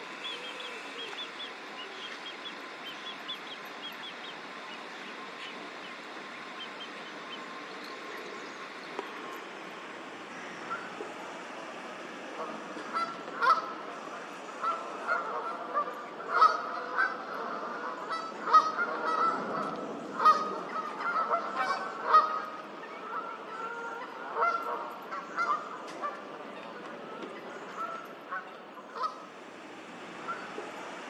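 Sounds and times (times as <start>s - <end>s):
geese honking: 0.0s - 9.4s, 10.3s - 11.7s, 12.3s - 29.3s, 30.2s - 31.0s.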